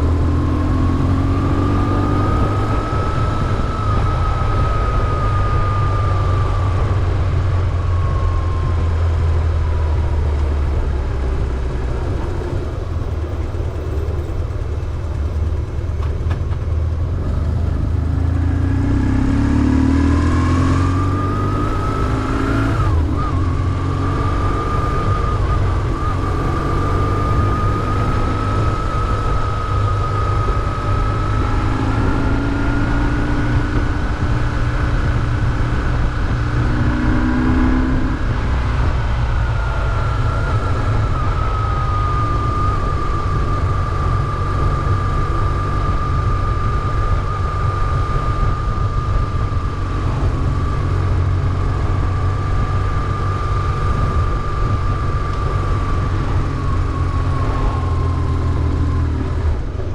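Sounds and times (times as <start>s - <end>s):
motorcycle engine rumbling: 0.0s - 59.9s
thin whine: 0.0s - 59.9s.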